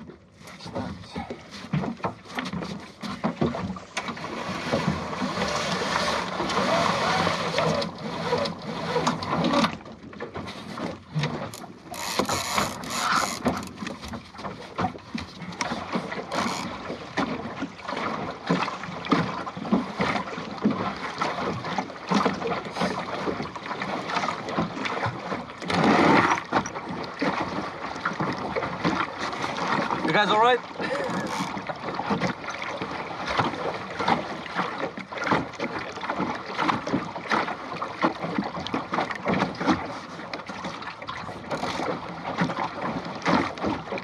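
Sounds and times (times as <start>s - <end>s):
water slapping against boat hull: 0.0s - 44.0s
steady rush of water: 3.0s - 9.8s, 10.7s - 13.9s, 15.5s - 44.0s.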